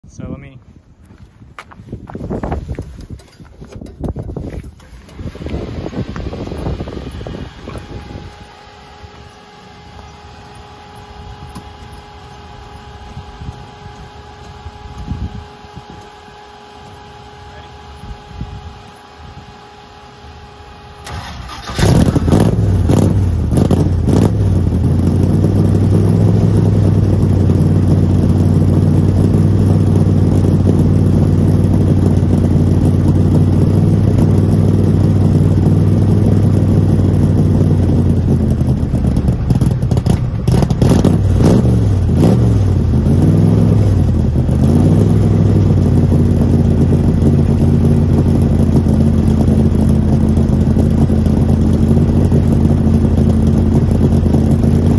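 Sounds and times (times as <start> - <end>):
car engine idling: 1.1 - 54.9
car engine starting and revving: 4.4 - 54.9.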